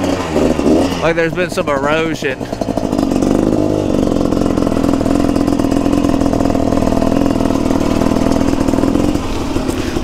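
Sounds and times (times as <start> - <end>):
two-stroke motorcycle engine running: 0.0 - 10.0.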